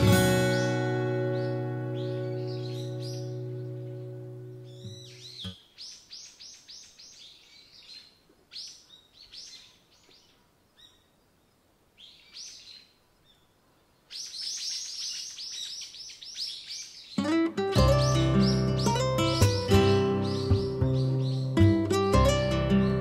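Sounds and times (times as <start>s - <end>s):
small songbird singing: 0.0s - 23.0s.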